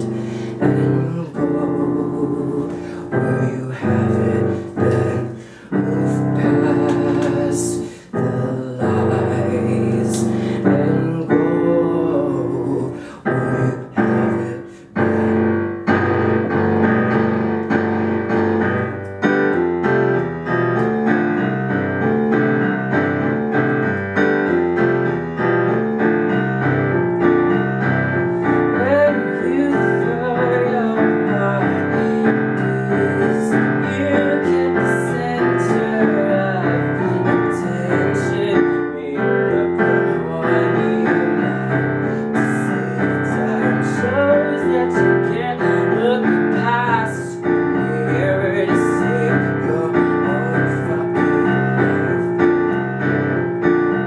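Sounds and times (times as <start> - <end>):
digital piano chords: 0.0 - 54.0.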